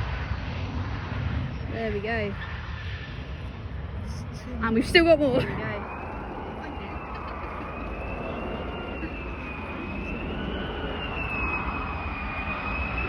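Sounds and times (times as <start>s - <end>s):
jet engine whine and roar: 0.0s - 13.0s.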